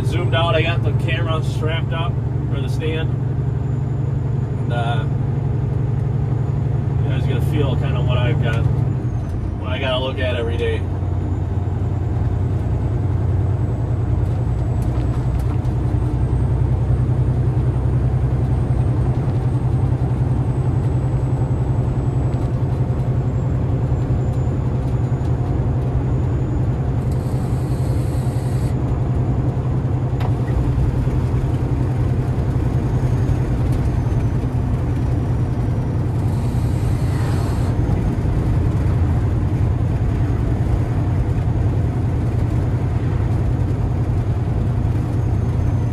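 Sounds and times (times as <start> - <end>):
diesel truck engine droning: 0.0 - 45.9
road noise: 0.0 - 45.9.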